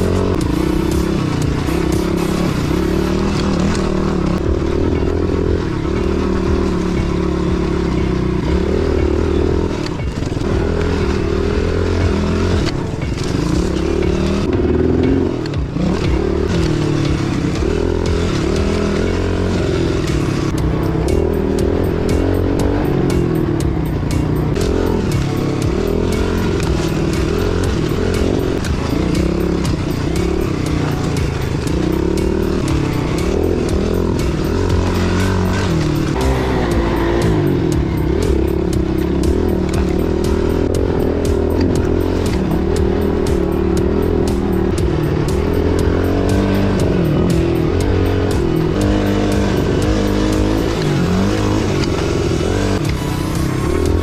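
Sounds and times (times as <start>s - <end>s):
bike rattling: 0.0s - 54.0s
motorbike engine revving: 0.0s - 54.0s.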